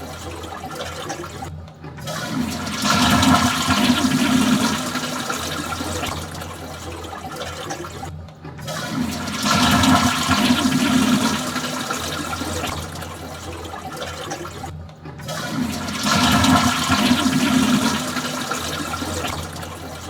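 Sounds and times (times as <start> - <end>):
toilet flushing: 0.0 - 20.0.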